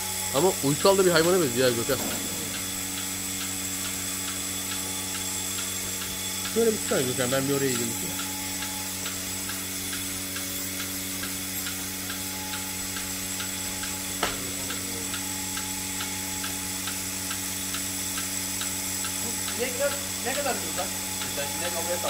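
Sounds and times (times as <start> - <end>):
milking machine motor hum: 0.0 - 22.0
pulsator clicking: 0.6 - 22.0.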